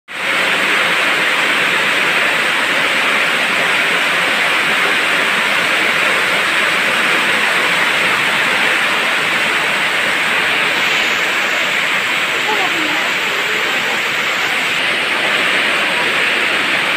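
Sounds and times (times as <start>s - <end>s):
heavy rain falling: 0.1s - 16.9s.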